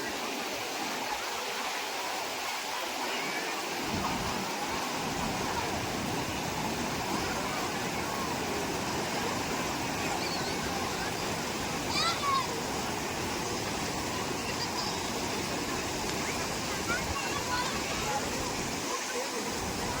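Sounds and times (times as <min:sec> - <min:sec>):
faint distant voices: 0:00.0 - 0:20.0
waterfall rushing: 0:00.0 - 0:20.0.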